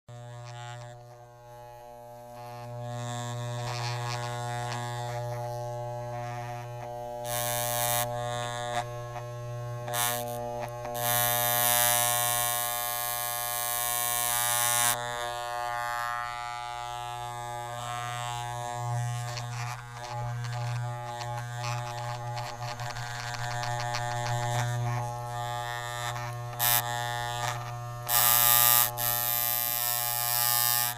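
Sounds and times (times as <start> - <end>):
electric hair clipper buzzing: 0.1 - 30.9.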